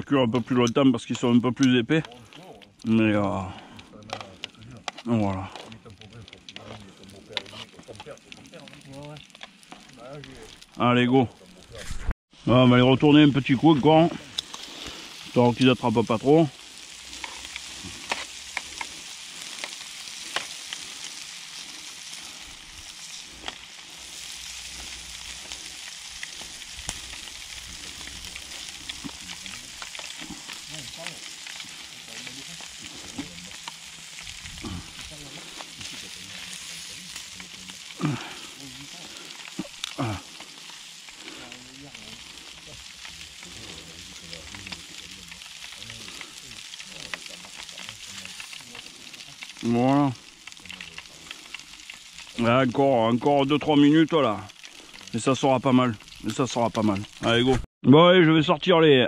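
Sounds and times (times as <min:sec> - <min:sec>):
meat sizzling on a grill: 0:00.0 - 0:57.6
embers popping and crackling: 0:00.0 - 0:59.0.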